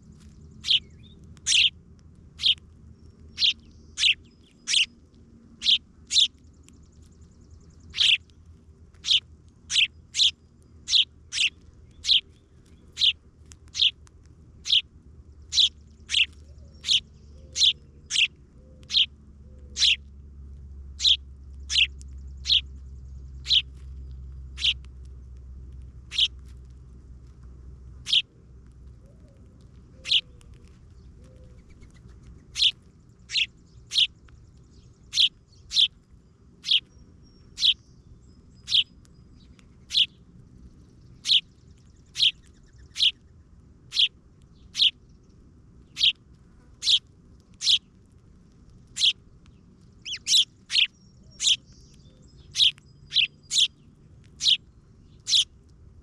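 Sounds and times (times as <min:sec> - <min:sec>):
songbird high chirp: 0:00.0 - 0:01.8, 0:02.4 - 0:14.0, 0:14.6 - 0:20.2, 0:20.9 - 0:25.4, 0:26.0 - 0:26.4, 0:28.0 - 0:28.3, 0:28.9 - 0:46.2, 0:46.8 - 0:48.0, 0:48.6 - 0:55.7
low steady rumble: 0:00.0 - 0:56.0.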